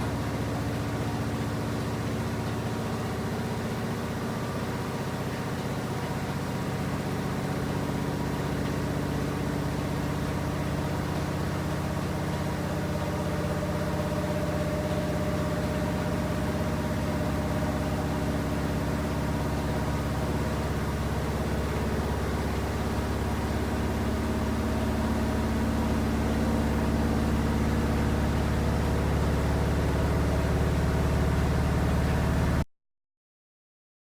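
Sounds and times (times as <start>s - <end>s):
washing machine motor hum: 0.0s - 32.6s.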